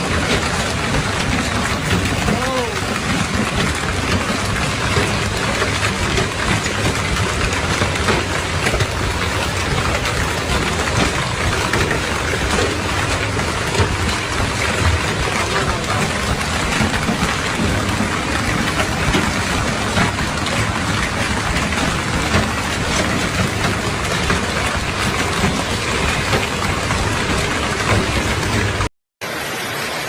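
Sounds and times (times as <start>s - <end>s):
heavy rain downpour: 0.0s - 30.0s.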